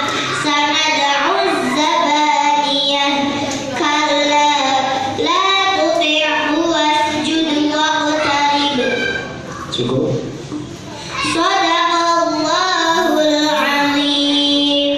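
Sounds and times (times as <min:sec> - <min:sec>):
girl chanting melodically: 0:00.0 - 0:09.2, 0:11.1 - 0:14.9.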